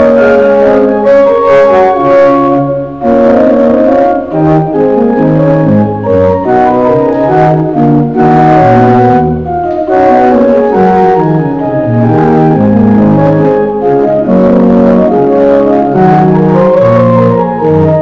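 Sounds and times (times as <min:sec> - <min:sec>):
church pipe organ playing chords: 0:00.0 - 0:18.0.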